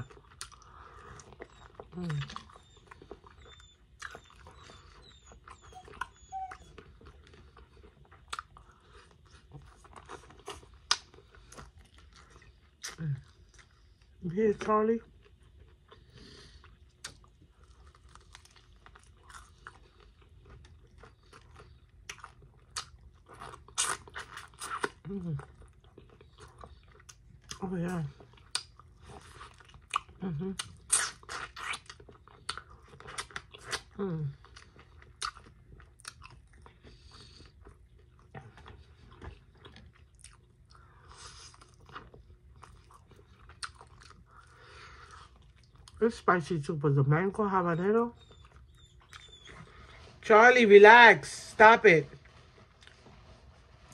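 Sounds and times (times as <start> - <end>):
person chewing crunchy food: 0.0 - 14.2, 15.1 - 46.0, 48.2 - 50.2, 52.2 - 53.9.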